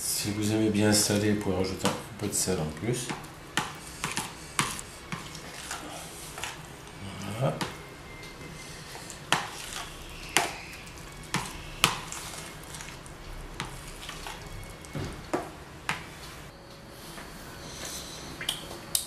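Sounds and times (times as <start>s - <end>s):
fork stirring thick mixture: 0.9s - 16.2s.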